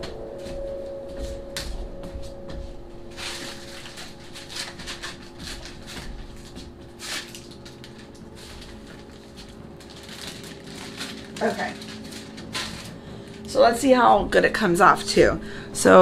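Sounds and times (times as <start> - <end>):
steady faint hum: 0.0 - 16.0
rustling and light taps: 0.5 - 13.4.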